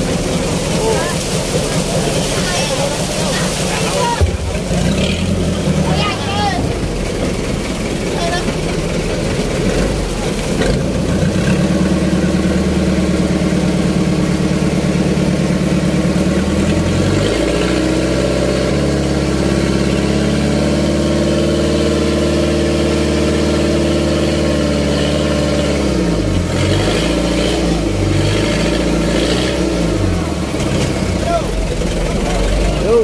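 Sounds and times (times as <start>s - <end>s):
boat engine running loudly: 0.0s - 33.0s.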